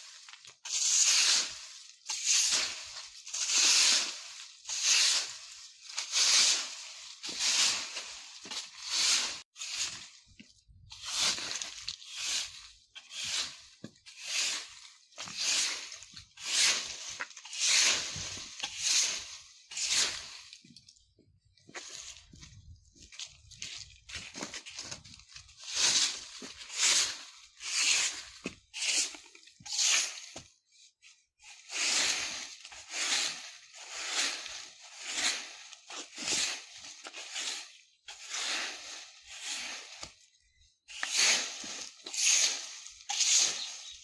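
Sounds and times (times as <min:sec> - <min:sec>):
broom sweeping dry leaves: 0:00.0 - 0:20.6, 0:21.7 - 0:44.0.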